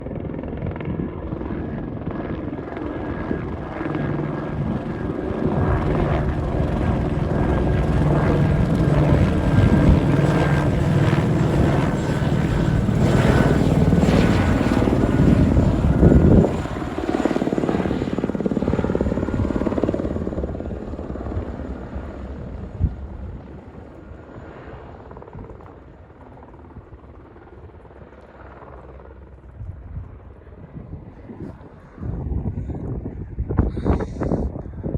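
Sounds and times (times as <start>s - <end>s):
helicopter flying past: 0.0s - 33.6s.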